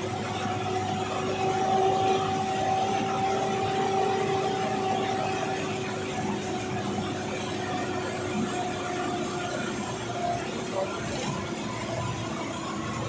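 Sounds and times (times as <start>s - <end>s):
bus engine and road noise: 0.0s - 13.0s
steady whine: 0.0s - 13.0s.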